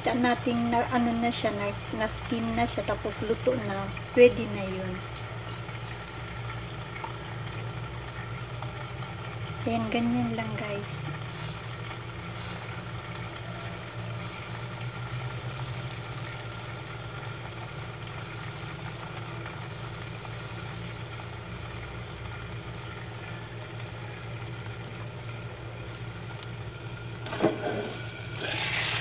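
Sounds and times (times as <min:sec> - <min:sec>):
dumplings frying and hissing: 0:00.0 - 0:29.0.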